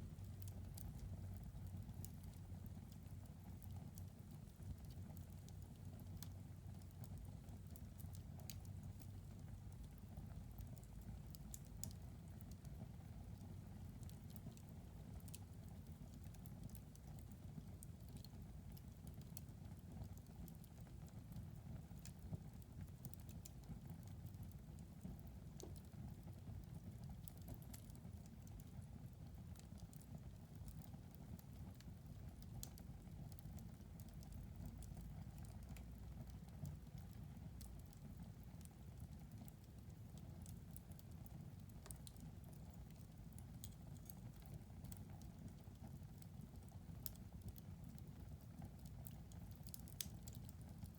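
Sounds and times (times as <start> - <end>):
low rumble of burning: 0.0 - 50.9
wood fire crackling: 0.0 - 50.9.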